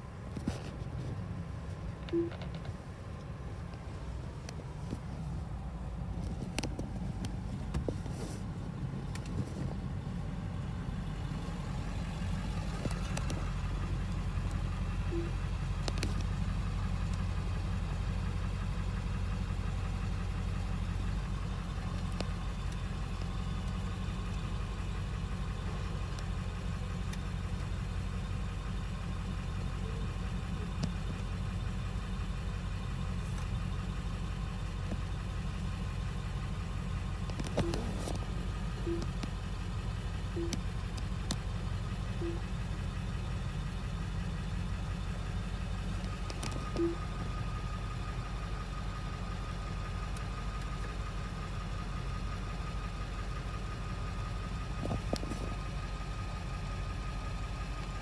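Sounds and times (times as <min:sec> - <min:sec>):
car engine low hum: 0:00.0 - 0:58.0.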